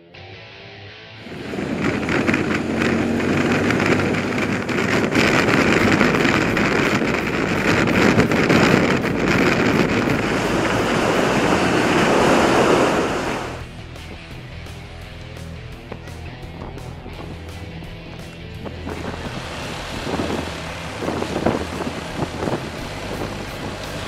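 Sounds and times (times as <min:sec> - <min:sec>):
wind rushing over microphone: 0:01.2 - 0:24.0.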